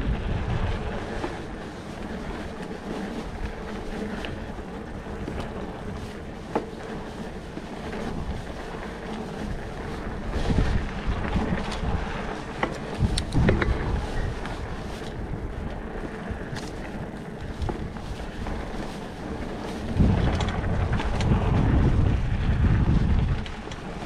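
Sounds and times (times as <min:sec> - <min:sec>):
bike rattling and clicking: 0:00.0 - 0:24.0
bike tyres rolling on dirt: 0:00.0 - 0:24.0
wind on microphone: 0:00.0 - 0:24.0.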